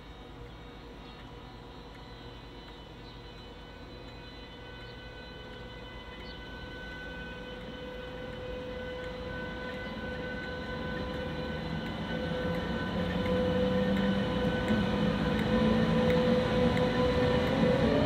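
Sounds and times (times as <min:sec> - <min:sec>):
steady hum: 0:00.0 - 0:18.0
train approaching: 0:00.0 - 0:18.0.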